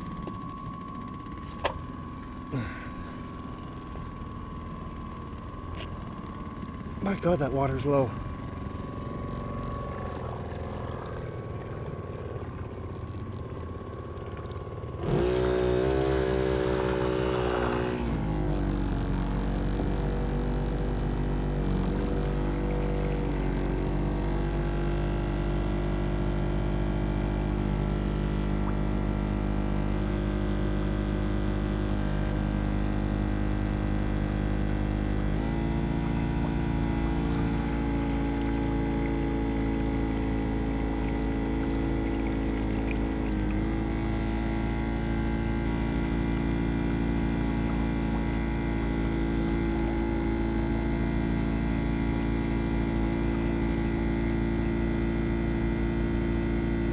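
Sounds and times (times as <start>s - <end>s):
motorboat engine: 0.0s - 56.9s.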